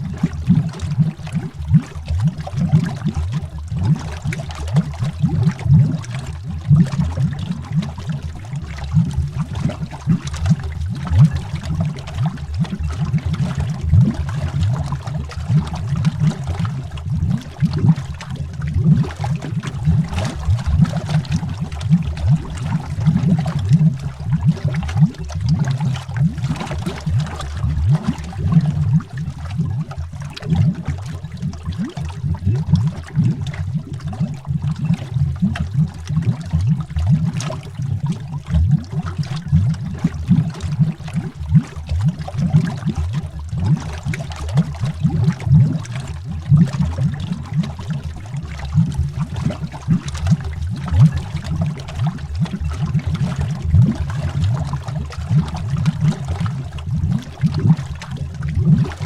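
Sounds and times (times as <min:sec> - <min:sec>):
air bubbles rising through water: 0:00.0 - 0:59.0.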